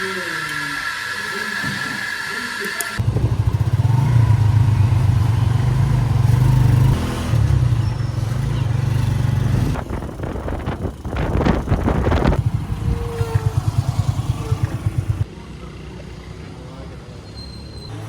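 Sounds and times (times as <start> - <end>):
small motorbike engine running: 0.0 - 16.9.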